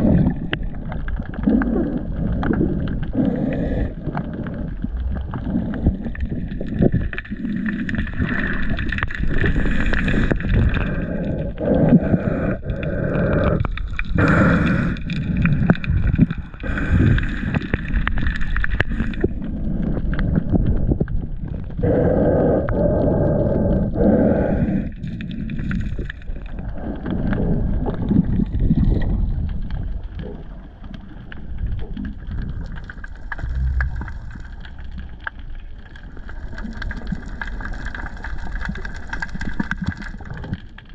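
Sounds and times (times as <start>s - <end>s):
muffled underwater sloshing: 0.0s - 40.9s.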